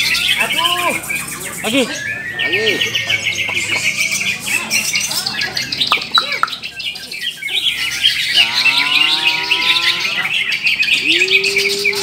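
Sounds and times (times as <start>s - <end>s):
birds singing trills: 0.0s - 12.0s.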